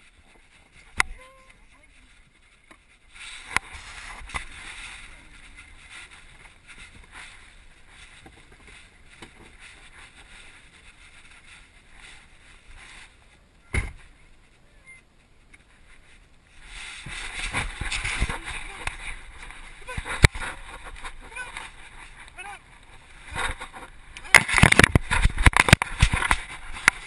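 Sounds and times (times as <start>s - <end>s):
rustling: 0.0s - 27.0s.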